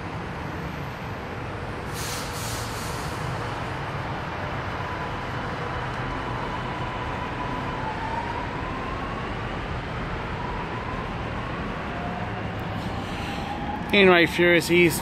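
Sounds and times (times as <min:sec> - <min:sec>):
metro train rolling rumble: 0:00.0 - 0:15.0.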